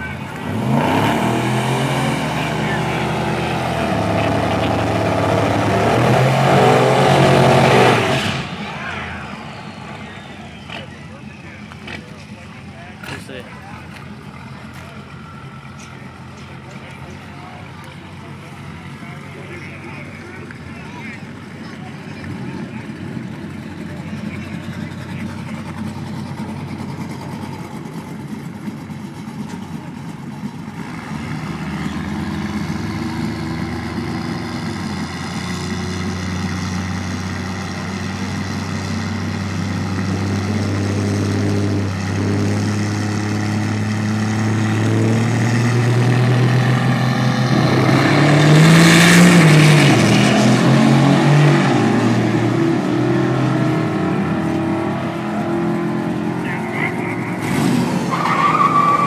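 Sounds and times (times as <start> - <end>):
diesel truck engine revving: 0.0 - 59.0.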